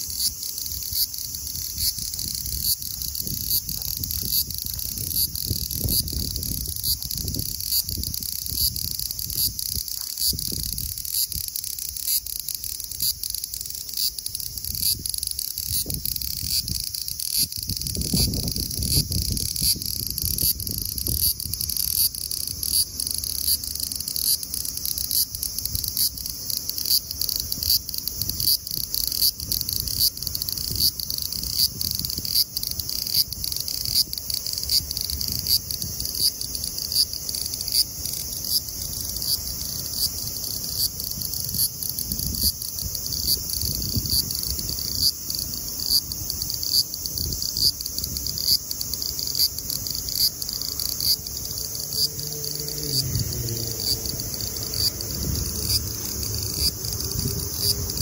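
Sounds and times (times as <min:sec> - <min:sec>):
cicada buzzing: 0:00.0 - 0:58.0.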